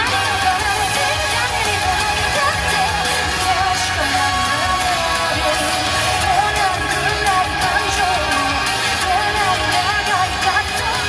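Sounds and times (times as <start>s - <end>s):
pop dance song with vocals: 0.0s - 11.0s.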